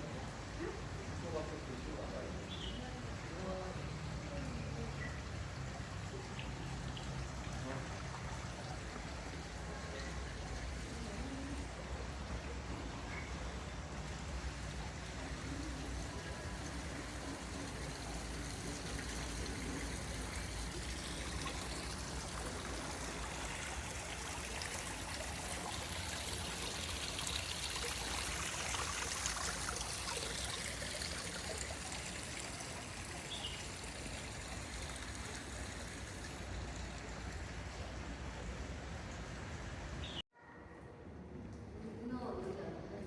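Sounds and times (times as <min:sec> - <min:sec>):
rushing water: 0:00.0 - 0:40.2.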